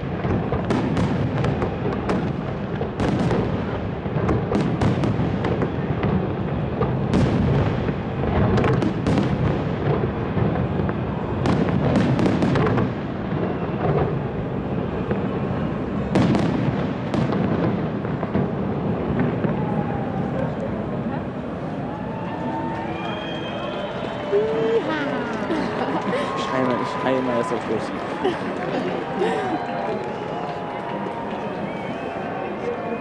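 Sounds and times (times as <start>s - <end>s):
fireworks rumbling bangs: 0.0s - 33.0s.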